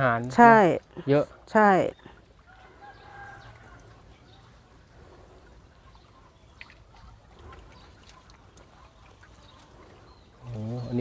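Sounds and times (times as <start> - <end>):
faint water trickling: 0.0 - 11.0.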